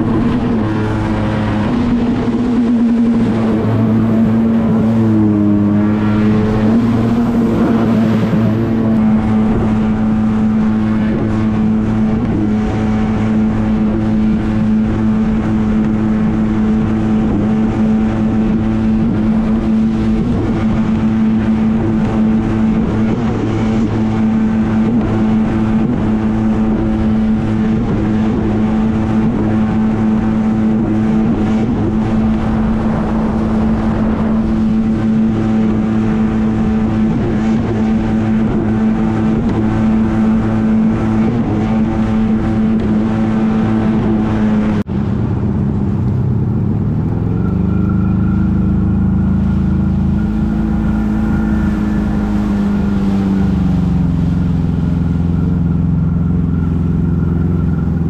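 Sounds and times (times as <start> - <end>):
jet ski engine droning: 0.0 - 58.0.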